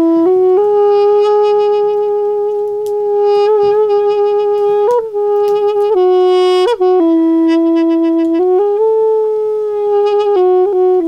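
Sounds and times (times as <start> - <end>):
double-reed pipe melody: 0.0 - 11.0.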